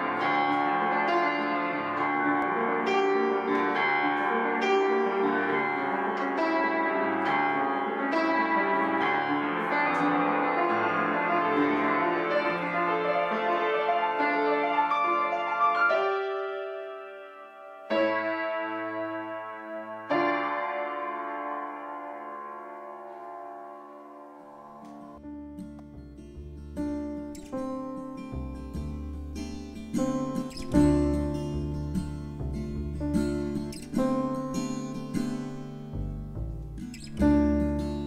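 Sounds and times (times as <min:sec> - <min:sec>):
flowing piano music: 0:00.0 - 0:38.0
loud piano chords: 0:00.0 - 0:38.0.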